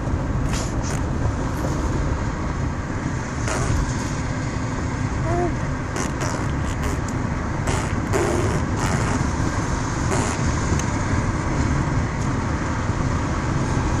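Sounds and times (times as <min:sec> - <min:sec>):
vehicle road and engine rumble: 0:00.0 - 0:14.0.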